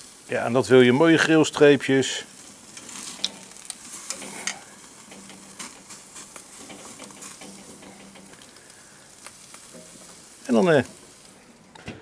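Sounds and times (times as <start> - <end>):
steaks sizzling on a grill: 0.0 - 11.8.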